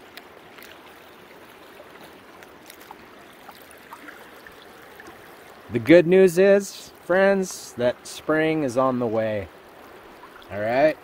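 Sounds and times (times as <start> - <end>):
river water rushing over shallows: 0.0 - 11.0.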